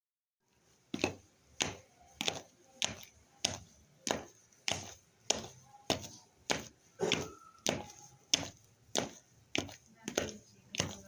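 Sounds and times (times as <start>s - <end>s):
footsteps walking: 0.5s - 11.0s.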